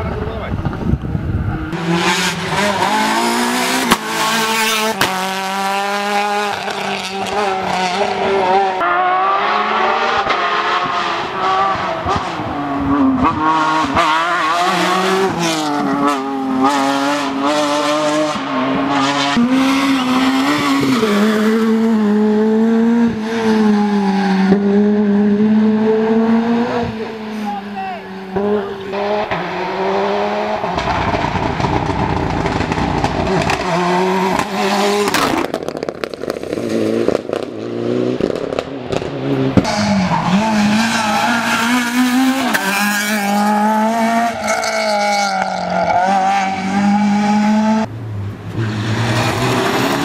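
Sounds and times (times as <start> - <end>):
rally car engine revving: 0.0 - 50.0.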